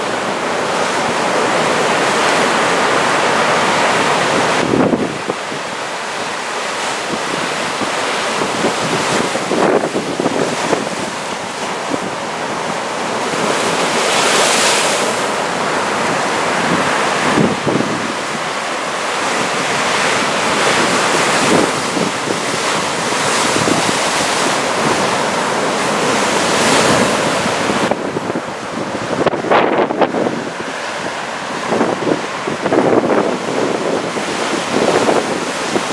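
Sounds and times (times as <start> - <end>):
heavy surf breaking on shore: 0.0 - 35.9
wind buffeting microphone: 4.0 - 35.9.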